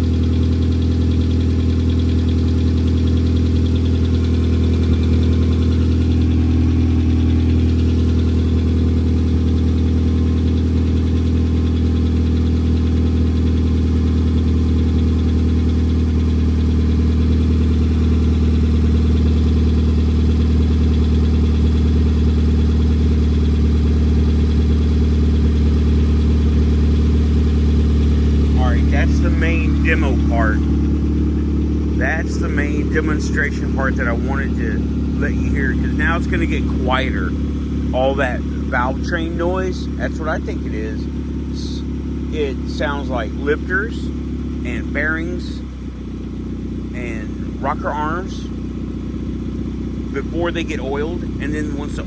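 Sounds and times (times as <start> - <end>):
engine valve-train ticking: 0.0 - 43.1
car engine idling: 0.0 - 52.0.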